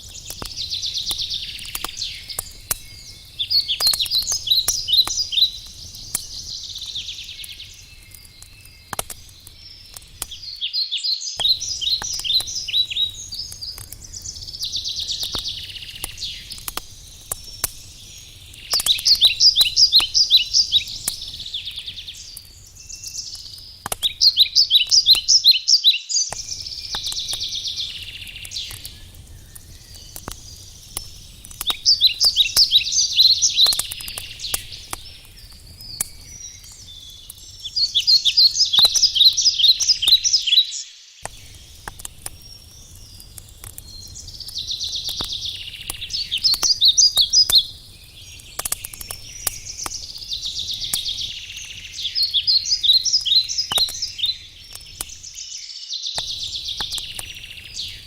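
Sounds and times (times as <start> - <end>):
campfire crackling with pops: 0.0 - 10.7, 11.4 - 55.6, 56.2 - 58.0
songbirds singing trills: 0.0 - 58.0.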